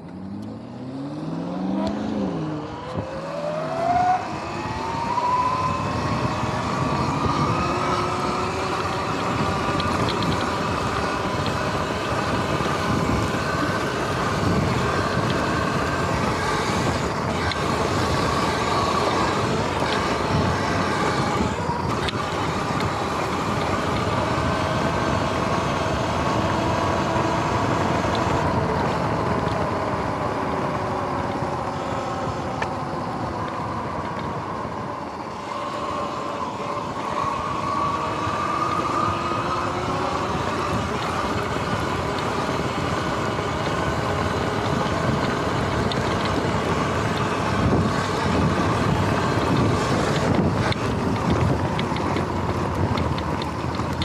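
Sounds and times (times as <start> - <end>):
electric motor whining: 0.0 - 54.0
wind and tyre rushing: 0.0 - 54.0.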